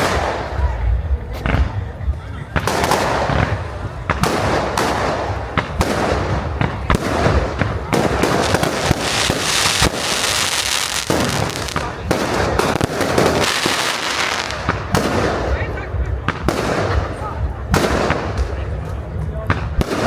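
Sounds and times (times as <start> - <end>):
fireworks crackling hiss: 0.0 - 19.0
fireworks bangs and pops: 0.0 - 20.0.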